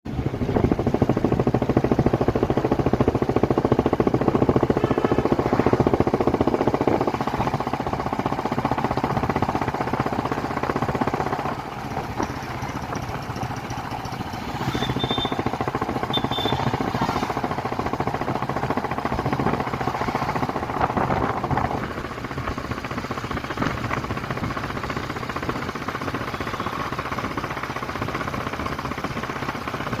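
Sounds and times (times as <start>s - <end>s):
motorcycle engine running: 0.1s - 30.0s.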